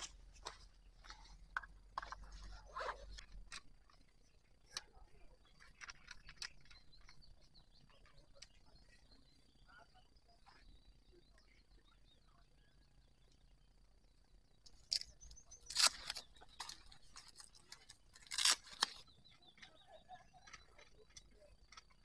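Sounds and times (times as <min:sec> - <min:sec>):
bird chirps and clicks: 0:00.0 - 0:22.0.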